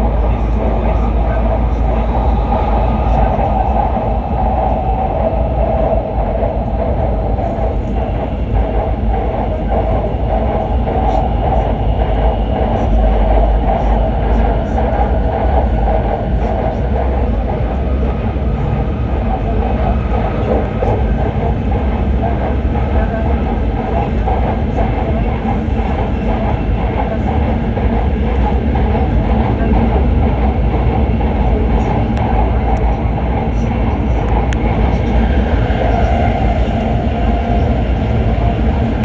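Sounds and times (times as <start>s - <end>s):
train cabin rumble: 0.0s - 39.0s.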